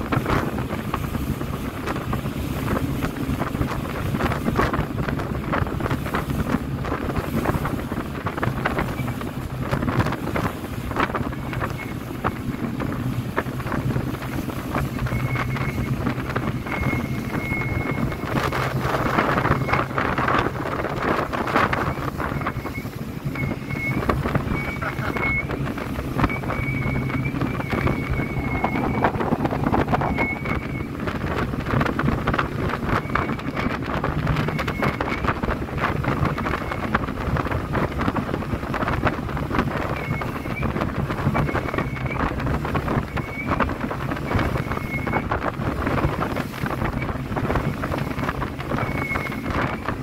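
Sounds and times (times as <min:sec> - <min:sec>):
speedboat engine hum: 0:00.0 - 0:50.0
wind buffeting microphone: 0:00.0 - 0:50.0.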